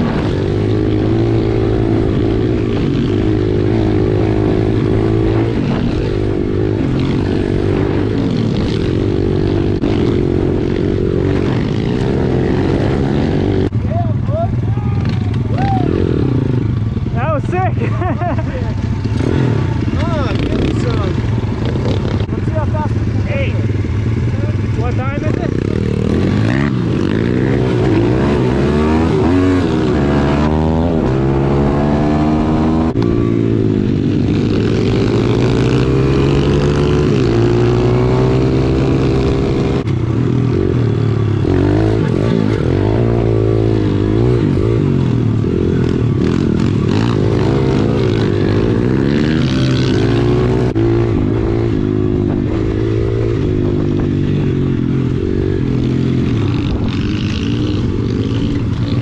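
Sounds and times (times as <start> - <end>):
pit bike engines revving: 0.0 - 59.0.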